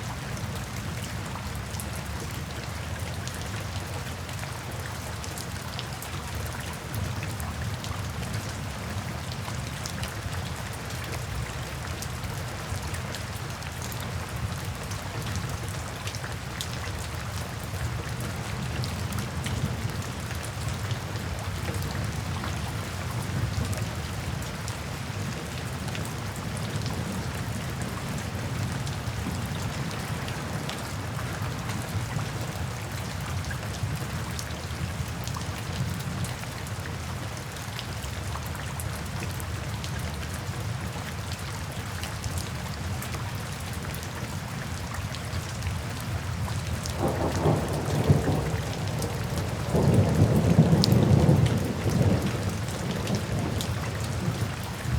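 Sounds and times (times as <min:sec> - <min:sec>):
rain drops ticking: 0:00.0 - 0:54.9
steady rain: 0:00.0 - 0:54.9.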